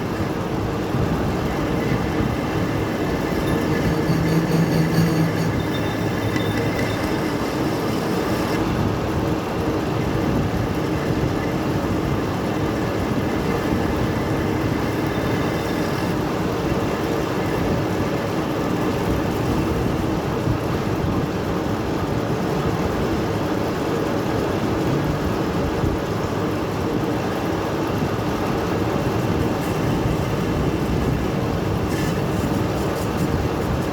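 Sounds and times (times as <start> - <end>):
metal lathe running: 0.0 - 21.5, 27.2 - 33.9.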